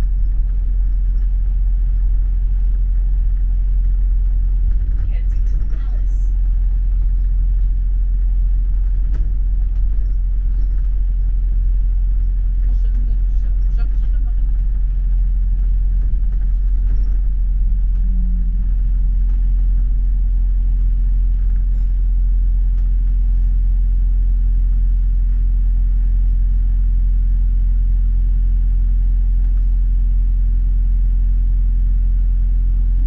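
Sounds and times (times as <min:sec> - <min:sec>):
bus engine rumble: 0:00.0 - 0:26.8.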